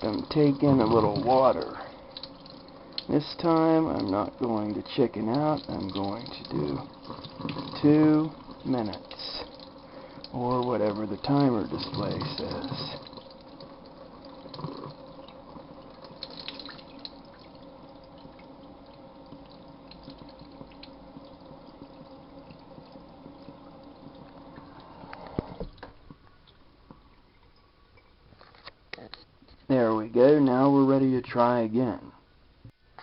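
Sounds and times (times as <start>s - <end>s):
tap water running: 0.0s - 28.3s.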